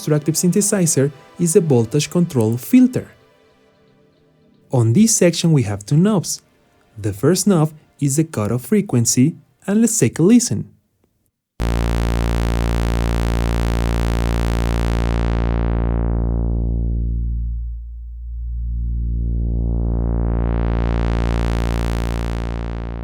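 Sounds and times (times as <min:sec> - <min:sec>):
synthesizer droning low note: 0:00.0 - 0:07.6, 0:11.6 - 0:23.0.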